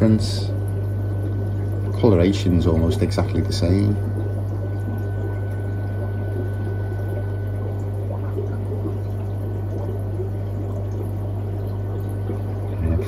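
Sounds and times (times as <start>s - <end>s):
low pump hum: 0.0s - 13.0s
water trickling and splashing: 0.0s - 13.0s.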